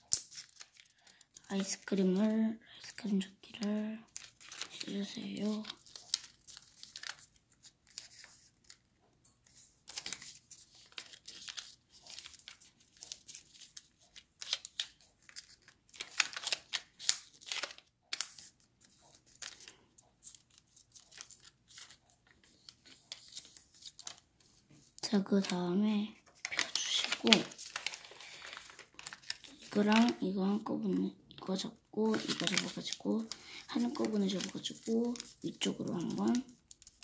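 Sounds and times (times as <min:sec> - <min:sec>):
paper rustling and crinkling: 0:00.0 - 0:02.2, 0:02.9 - 0:08.8, 0:09.4 - 0:25.6, 0:26.2 - 0:30.3, 0:31.4 - 0:37.0.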